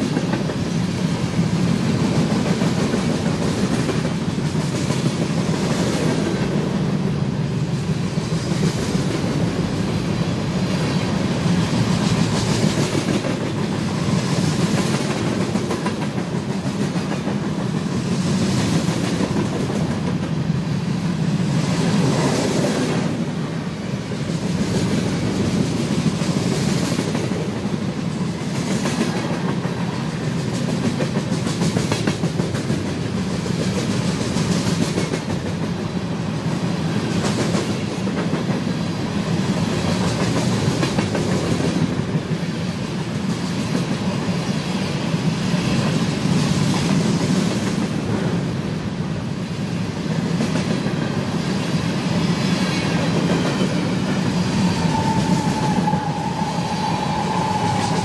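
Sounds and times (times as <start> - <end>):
freight train cars rolling: 0.0 - 58.0.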